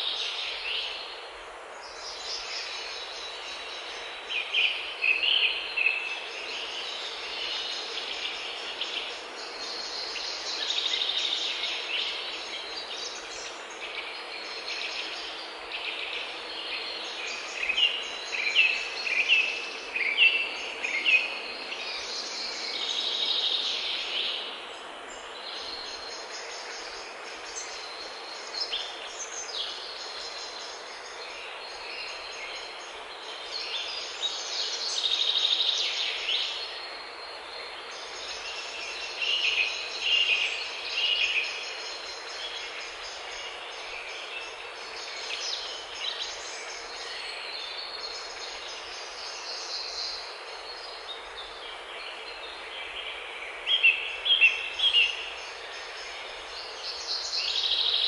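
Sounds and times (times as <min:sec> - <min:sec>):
background hiss: 0:00.0 - 0:58.0
songbirds singing: 0:00.0 - 0:58.0.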